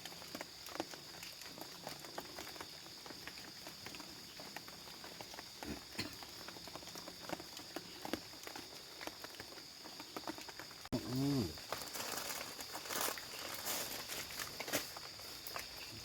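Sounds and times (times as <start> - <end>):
night insects droning: 0.0 - 16.0
rain drops pattering and dripping: 0.0 - 16.0.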